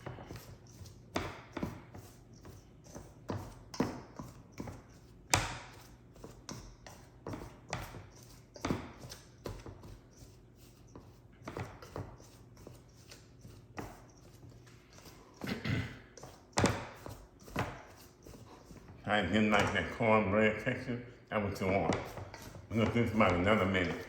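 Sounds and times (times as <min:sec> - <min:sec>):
knocks and scrapes in a bowl: 0:00.0 - 0:20.1, 0:21.5 - 0:24.0.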